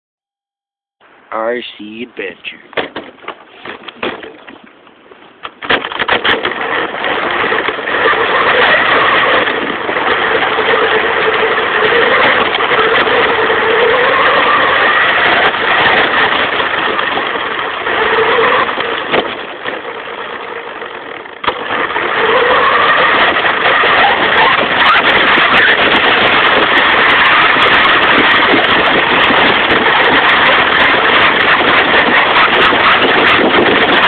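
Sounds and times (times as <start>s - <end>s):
rc car motor: 5.7s - 34.0s.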